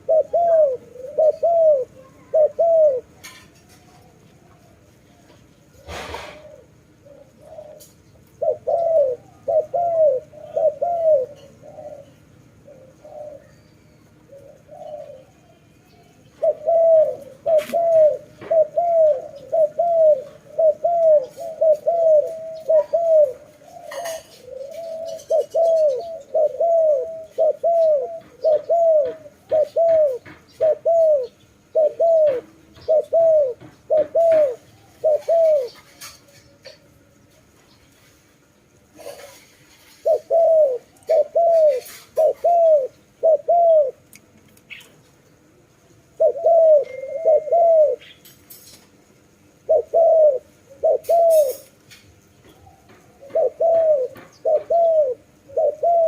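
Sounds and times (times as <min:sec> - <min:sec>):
dove cooing: 0:00.0 - 0:36.8, 0:38.9 - 0:44.1, 0:46.0 - 0:48.6, 0:49.4 - 0:51.7, 0:52.4 - 0:56.0.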